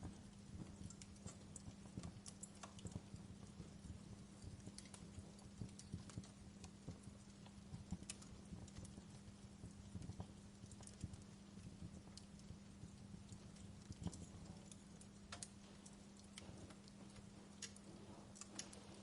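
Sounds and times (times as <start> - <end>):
low steady hum: 0.0 - 19.0
wood fire crackling: 0.0 - 19.0.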